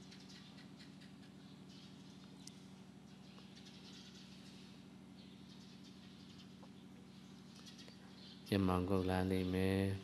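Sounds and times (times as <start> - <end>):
faint electrical hum: 0.0 - 10.0.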